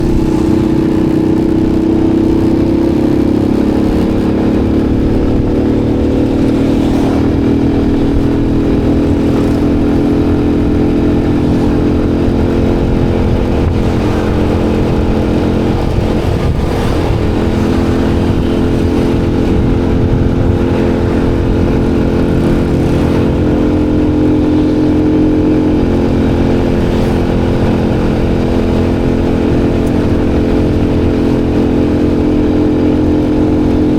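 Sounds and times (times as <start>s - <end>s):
low rumble: 0.0s - 33.9s
motorcycle engine running: 0.0s - 33.9s.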